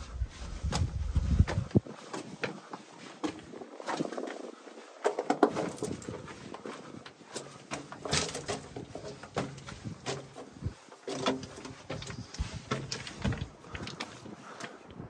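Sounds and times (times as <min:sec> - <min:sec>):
footsteps crunching on stone rubble: 0:00.0 - 0:14.8.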